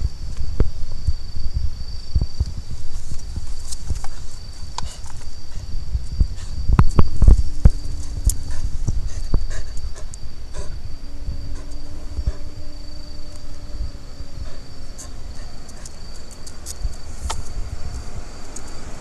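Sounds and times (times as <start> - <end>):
crickets trilling: 0.0 - 19.0
faint low hum: 0.0 - 19.0.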